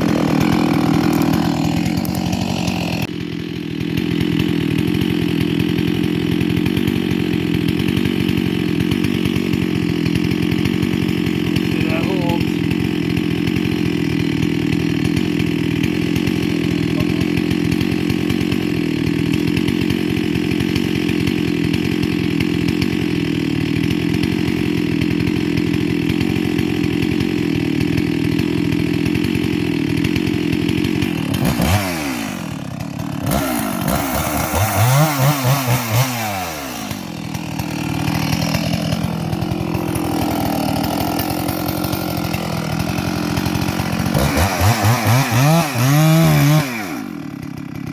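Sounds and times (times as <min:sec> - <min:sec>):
chainsaw running at high revs: 0:00.0 - 0:47.9.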